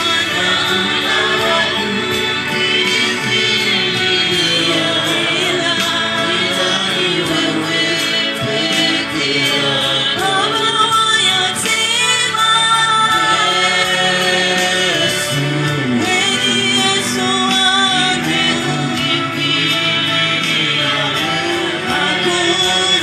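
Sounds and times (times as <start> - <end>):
instrumental accompaniment with beat: 0.0 - 23.0
voices singing gospel song: 0.0 - 23.0.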